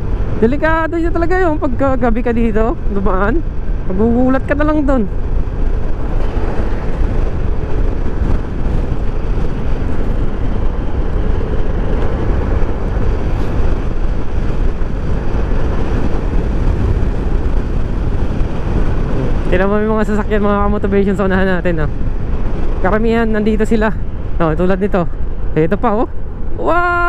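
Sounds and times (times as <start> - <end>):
scooter engine hum: 0.0 - 27.0
wind and road noise: 0.0 - 27.0.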